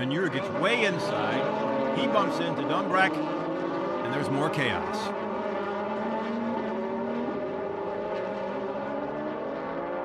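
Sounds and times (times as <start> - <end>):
racing car engines: 0.0 - 10.0.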